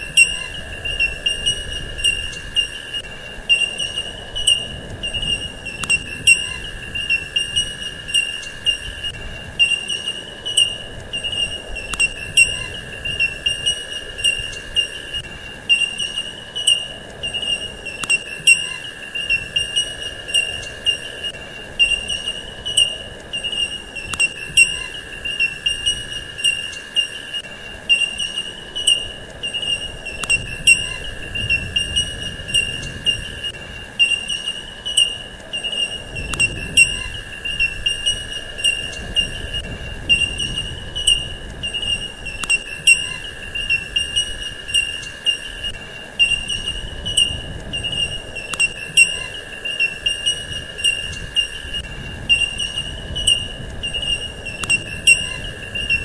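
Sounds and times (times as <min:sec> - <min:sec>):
faint clicks: 0:00.0 - 0:56.0
insect trill pulsing: 0:00.0 - 0:56.0.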